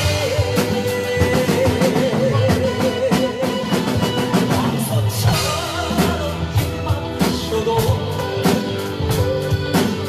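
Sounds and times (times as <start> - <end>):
drum kit beat: 0.0 - 10.0
live band playing: 0.0 - 10.0
person singing with vibrato: 0.0 - 10.0.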